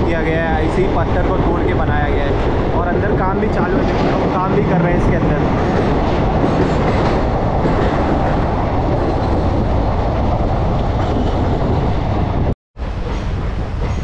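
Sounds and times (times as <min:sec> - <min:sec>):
train coaches rumbling and rattling: 0:00.0 - 0:14.0.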